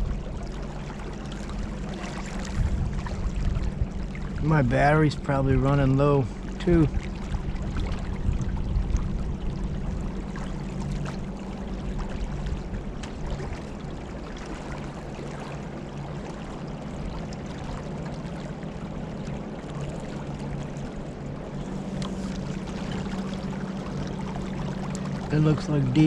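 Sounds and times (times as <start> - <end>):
steady low hum: 0.0 - 26.0
water splashing against kayak: 0.0 - 26.0.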